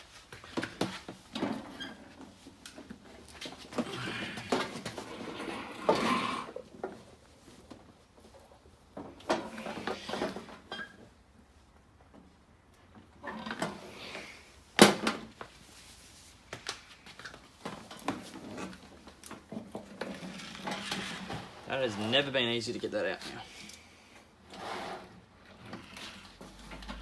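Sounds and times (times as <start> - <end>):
trolley casters rolling and rattling: 0.0 - 11.2, 11.9 - 14.1, 17.2 - 23.5, 24.4 - 27.0.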